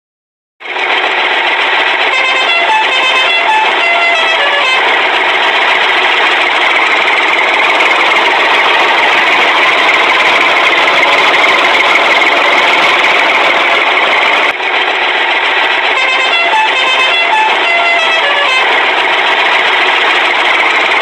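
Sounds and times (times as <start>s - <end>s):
dumper truck engine rumbling: 0.6s - 21.0s.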